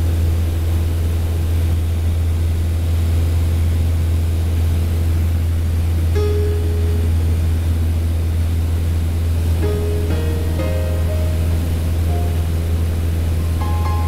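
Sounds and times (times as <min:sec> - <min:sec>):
airplane engine drone in cabin: 0:00.0 - 0:14.0
wind and airframe noise: 0:00.0 - 0:14.0.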